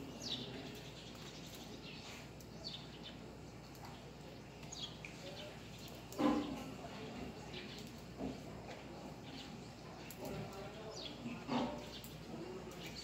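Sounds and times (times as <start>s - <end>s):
faint outdoor background noise: 0.0s - 13.0s
small birds chirping: 0.0s - 13.0s.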